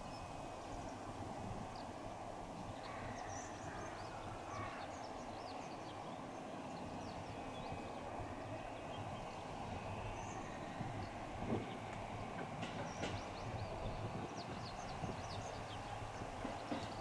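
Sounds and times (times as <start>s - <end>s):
electric trains humming: 0.0s - 17.0s
small birds chirping: 0.0s - 17.0s.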